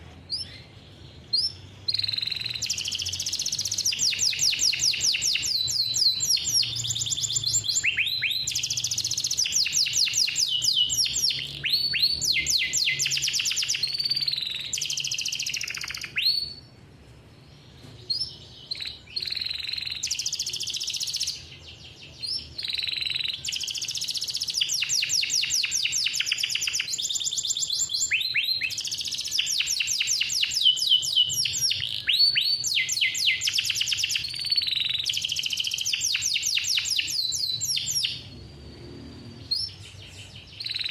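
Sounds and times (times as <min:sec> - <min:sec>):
canary singing rolling trills: 0:00.0 - 0:40.9.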